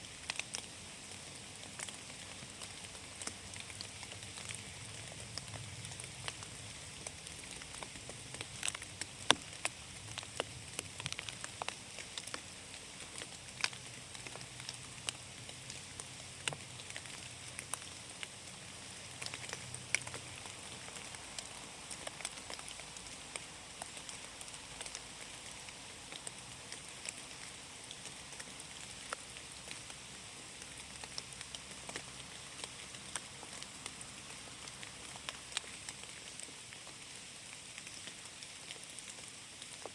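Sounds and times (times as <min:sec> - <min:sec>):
rain hiss: 0:00.0 - 0:39.9
raindrop ticks: 0:00.0 - 0:39.9.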